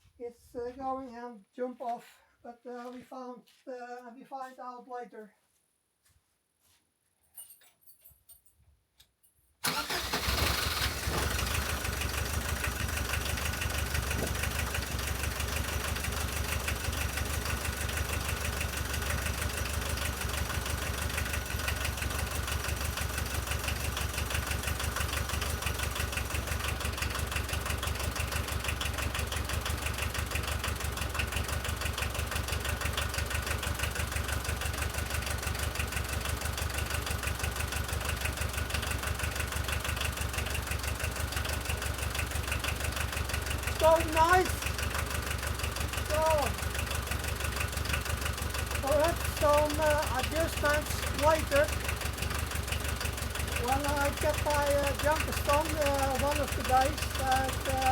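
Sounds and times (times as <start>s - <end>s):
diesel engine idling: 9.6s - 57.9s.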